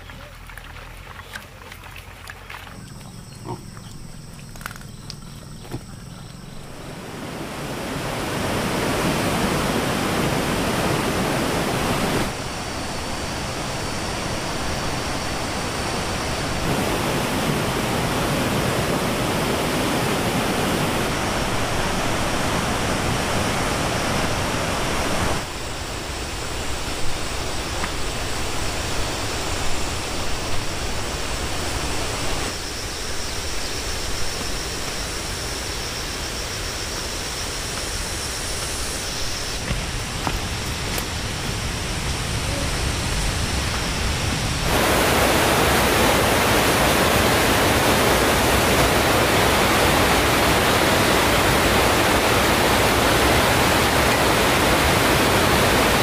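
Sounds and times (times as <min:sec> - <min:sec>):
steady rushing noise: 0:06.6 - 0:56.0.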